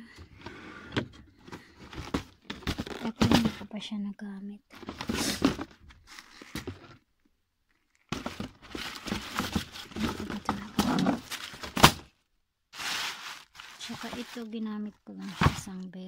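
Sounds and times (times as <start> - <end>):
clothes rustling and crinkling: 1.3 - 3.7, 4.7 - 16.0.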